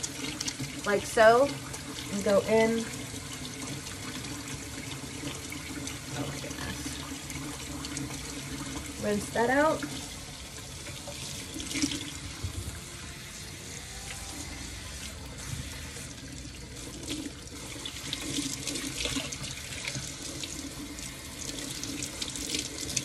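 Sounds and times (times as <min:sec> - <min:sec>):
tap running: 0:00.0 - 0:13.0, 0:14.0 - 0:23.0.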